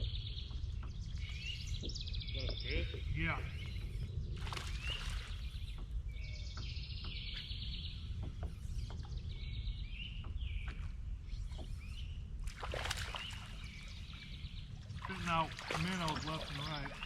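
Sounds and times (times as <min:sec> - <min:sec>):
birds chirping and singing: 0:00.0 - 0:17.0
steady low rumble: 0:00.0 - 0:17.0.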